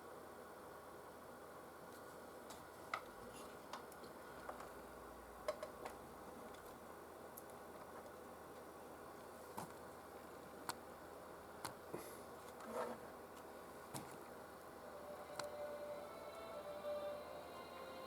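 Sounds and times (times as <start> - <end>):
faint console running noise: 0.0 - 18.0.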